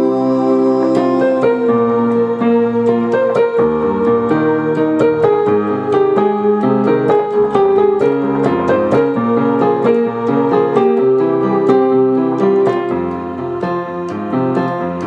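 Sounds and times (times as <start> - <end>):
instrumental keyboard music: 0.0 - 15.0.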